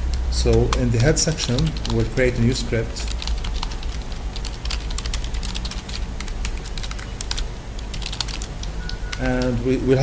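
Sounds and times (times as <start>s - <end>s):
typing on computer keyboard: 0.1s - 2.4s, 3.0s - 9.6s.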